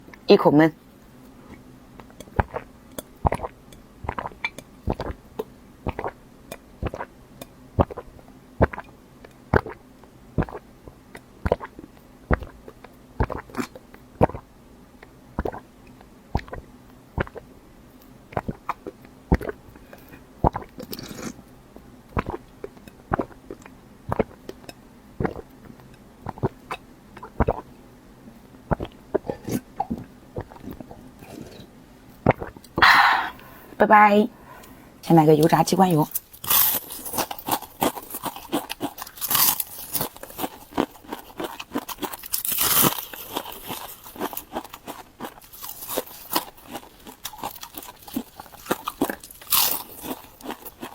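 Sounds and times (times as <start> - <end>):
chewing crisp food: 1.5 - 9.8, 10.4 - 14.4, 15.0 - 21.4, 22.1 - 27.7, 28.7 - 33.6, 36.1 - 50.9.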